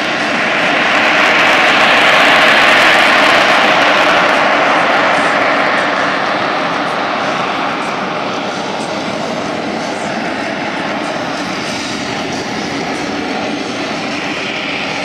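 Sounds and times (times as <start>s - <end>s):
jet aircraft flying low: 0.0s - 15.0s.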